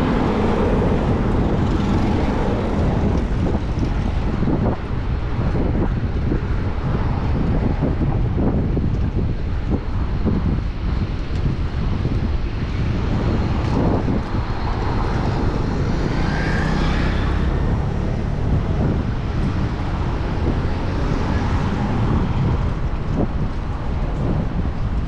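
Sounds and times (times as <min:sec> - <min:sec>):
city traffic passing: 0:00.0 - 0:25.0
wind rumbling on microphone: 0:00.0 - 0:25.0.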